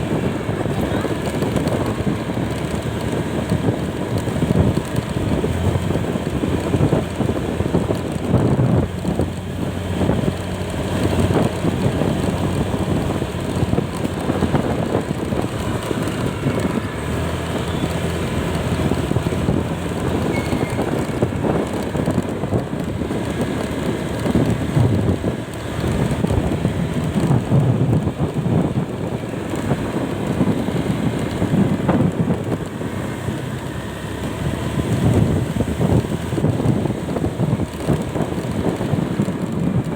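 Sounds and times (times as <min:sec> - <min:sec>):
vehicle engine running: 0:00.0 - 0:39.9
wind rush on microphone: 0:00.0 - 0:39.9.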